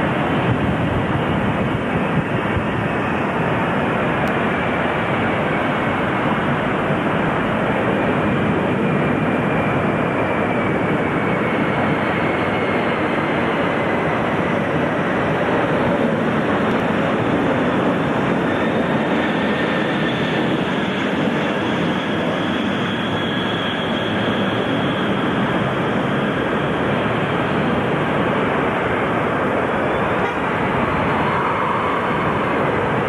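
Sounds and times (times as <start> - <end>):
jet engines passing low: 0.0 - 33.0.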